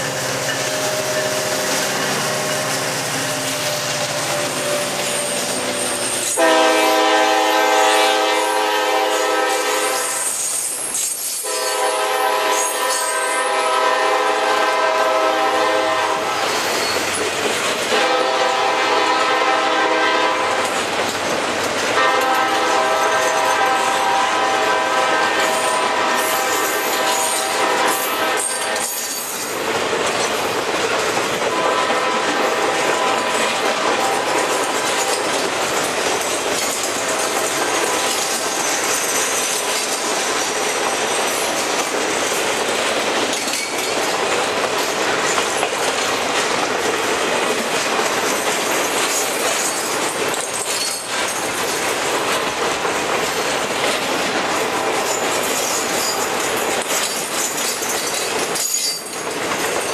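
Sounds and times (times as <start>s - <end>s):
steel wheels running over rails: 0.0s - 59.9s.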